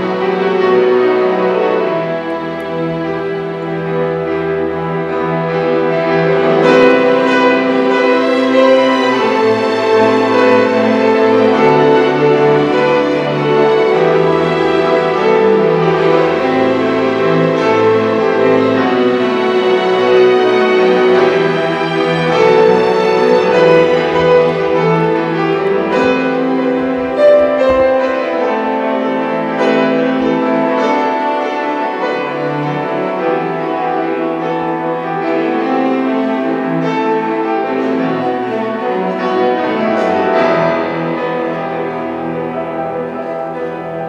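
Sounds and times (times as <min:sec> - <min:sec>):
bowed strings sustained notes: 0:00.0 - 0:44.0
piano: 0:00.0 - 0:44.0.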